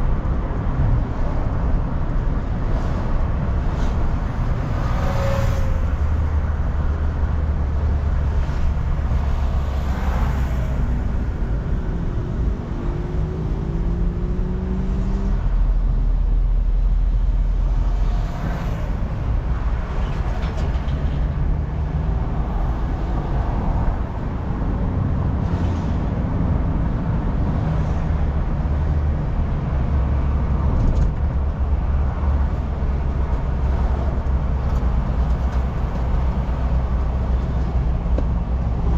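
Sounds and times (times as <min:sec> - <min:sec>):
road rumble: 0:00.0 - 0:38.9.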